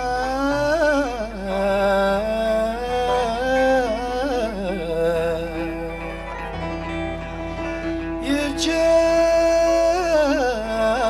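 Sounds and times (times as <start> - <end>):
man singing: 0.0 - 6.7, 8.0 - 11.0
oud playing: 0.0 - 11.0.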